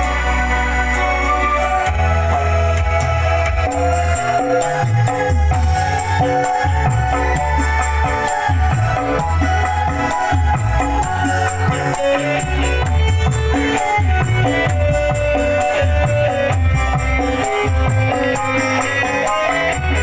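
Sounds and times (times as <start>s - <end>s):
music with heavy pulsing bass: 0.0s - 20.0s.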